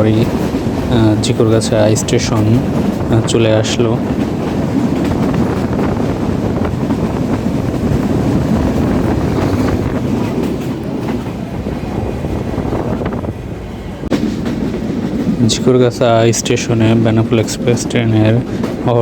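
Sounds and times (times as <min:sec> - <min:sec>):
train rumbling and rattling on rails: 0:00.0 - 0:19.0.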